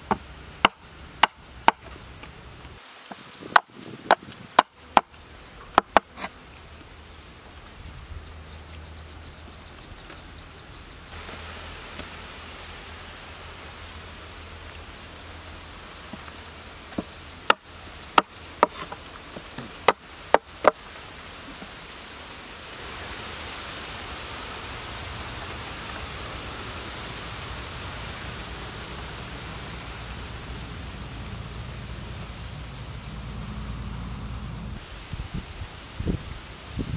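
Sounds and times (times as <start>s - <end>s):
outdoor background hiss: 0.0s - 36.9s.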